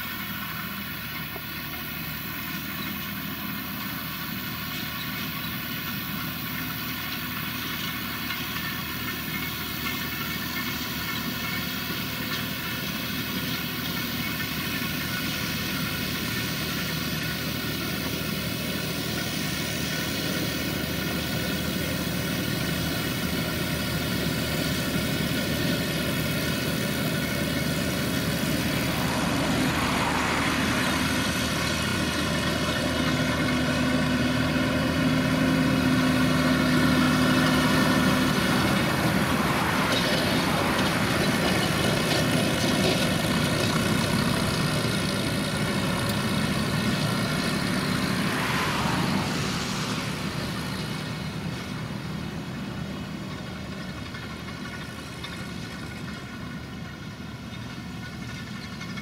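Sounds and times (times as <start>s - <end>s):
round baler picking up grass: 0.0s - 59.0s
tractor diesel engine under load: 0.0s - 59.0s.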